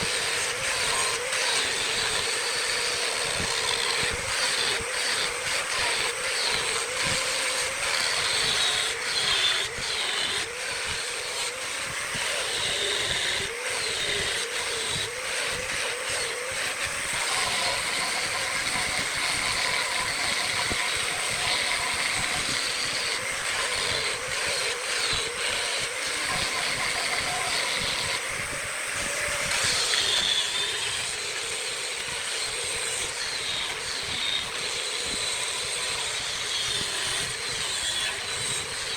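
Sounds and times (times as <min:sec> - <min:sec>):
wood lathe cutting wood: 0:00.0 - 0:38.9.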